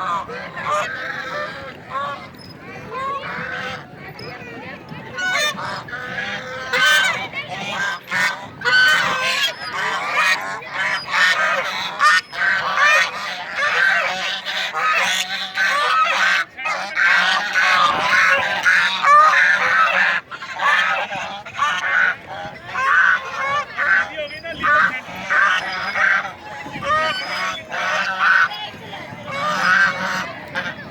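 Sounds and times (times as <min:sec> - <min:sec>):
ducks quacking: 0:00.0 - 0:30.9.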